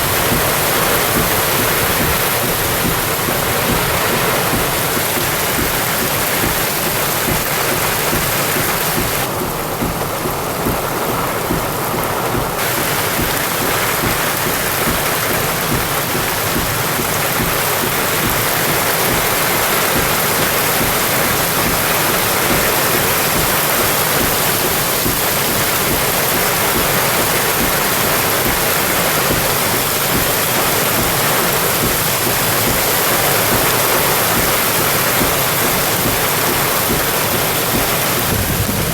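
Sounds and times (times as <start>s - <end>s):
heavy rain rushing water: 0.0s - 38.9s.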